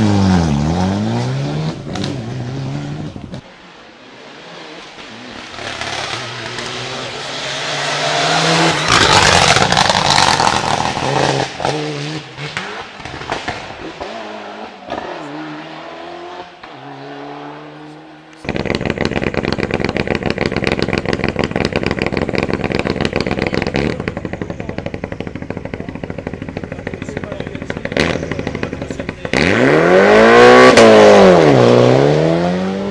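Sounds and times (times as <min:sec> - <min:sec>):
rally car passing flat out: 0:04.1 - 0:32.9.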